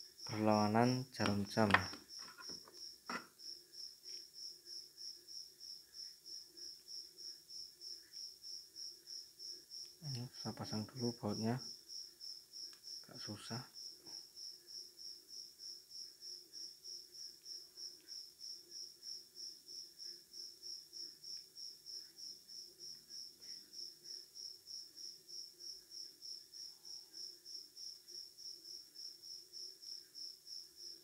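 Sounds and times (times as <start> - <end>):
cricket chirping: 0.0 - 31.0.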